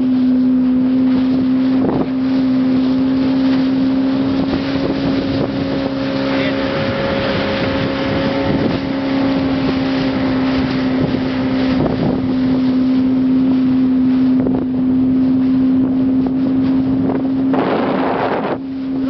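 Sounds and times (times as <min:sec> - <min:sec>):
motorboat engine running: 0:00.0 - 0:19.0
wind noise on microphone: 0:01.3 - 0:19.0.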